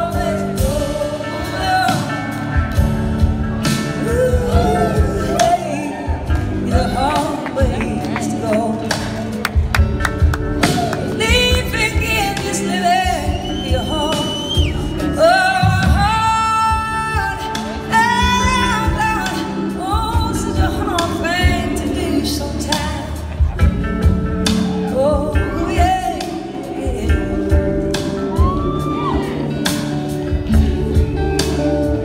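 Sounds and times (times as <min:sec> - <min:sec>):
live blues-rock band playing: 0:00.0 - 0:32.0.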